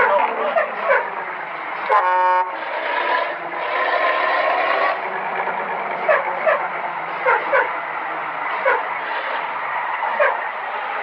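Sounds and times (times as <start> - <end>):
road vehicle noise: 0.0 - 11.0.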